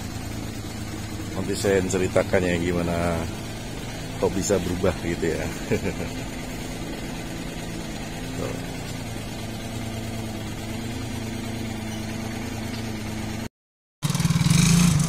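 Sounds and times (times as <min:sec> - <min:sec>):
car engine idling: 0:00.0 - 0:15.0
louder engine: 0:00.0 - 0:15.0.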